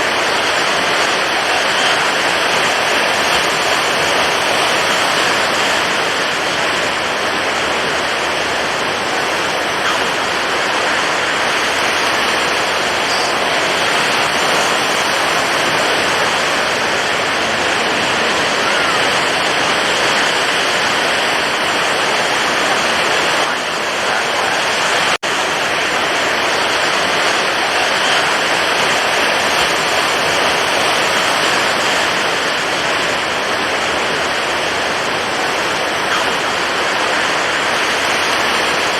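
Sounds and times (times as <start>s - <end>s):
stormy ocean waves breaking: 0.0s - 38.9s.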